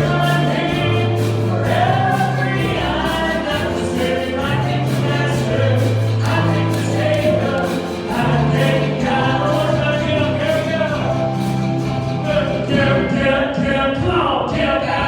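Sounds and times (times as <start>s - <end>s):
instrumental backing with bass notes: 0.0s - 13.8s
choir singing gospel music: 0.0s - 15.0s.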